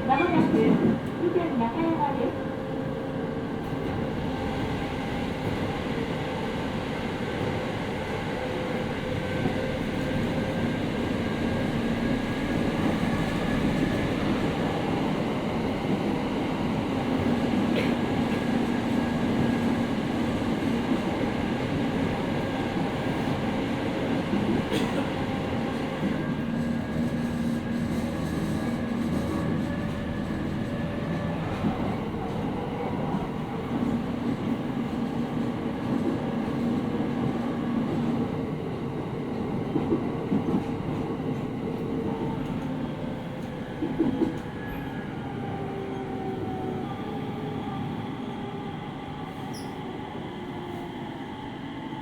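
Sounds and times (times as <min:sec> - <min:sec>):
train wheel and rail noise: 0:00.0 - 0:52.0.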